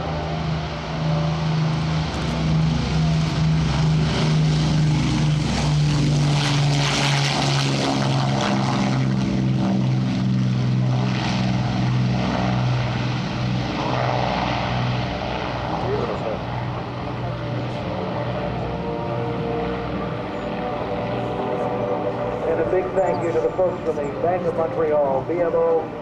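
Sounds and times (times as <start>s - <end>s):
propeller aircraft engines at takeoff: 0.0s - 26.0s.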